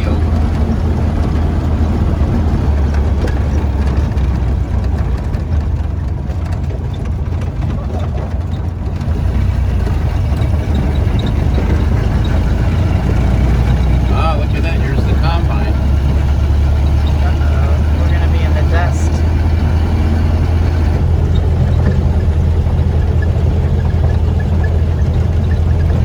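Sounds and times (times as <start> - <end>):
car engine running: 0.0 - 26.0
road and wind noise: 0.0 - 26.0.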